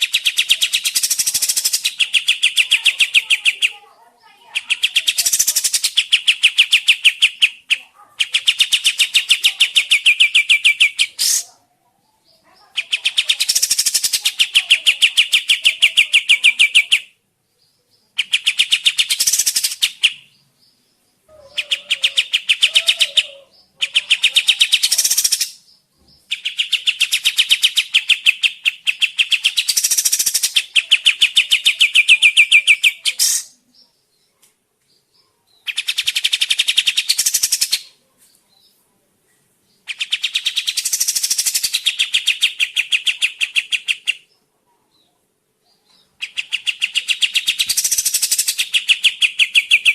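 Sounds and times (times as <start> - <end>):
songbird singing fast chattering notes: 0.0 - 34.3, 34.9 - 38.0, 39.6 - 44.5, 45.7 - 49.9.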